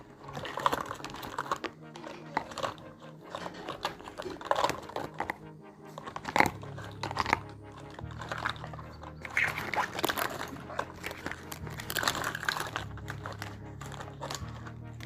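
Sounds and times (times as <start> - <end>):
soft background music: 0.0 - 15.0
toy pieces clicking: 0.1 - 15.0.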